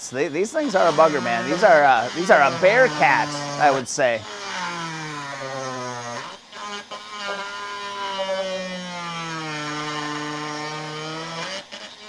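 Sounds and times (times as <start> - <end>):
rotary tool grinding metal: 0.0 - 12.0.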